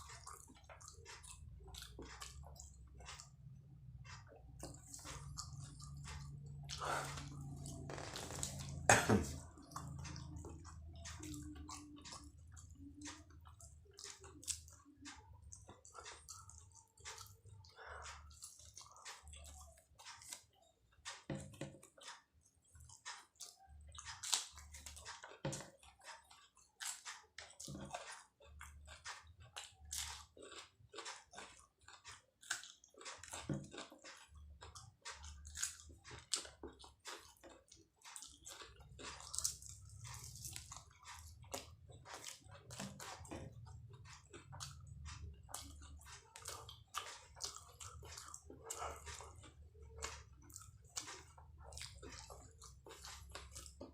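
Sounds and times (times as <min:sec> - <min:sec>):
person chewing and biting food: 0:00.0 - 0:53.9.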